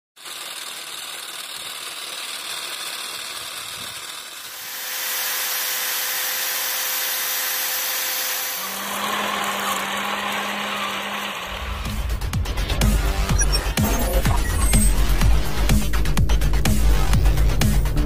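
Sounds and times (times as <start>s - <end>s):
small electric motor whirring: 0.2s - 16.0s.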